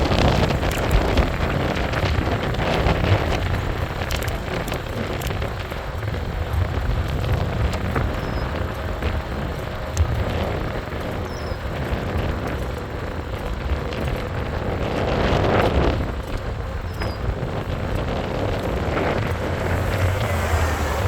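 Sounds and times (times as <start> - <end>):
road noise rumble: 0.0 - 21.0
wind rushing over microphone: 0.0 - 21.0.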